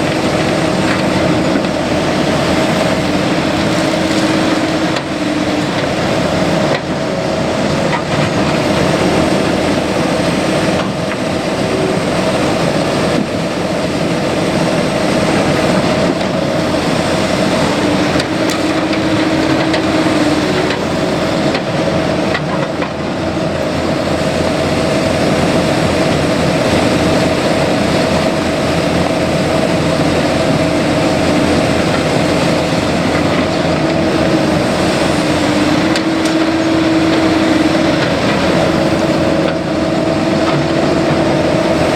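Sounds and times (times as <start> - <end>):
excavator diesel engine: 0.0 - 41.9
steady whine: 0.0 - 41.9.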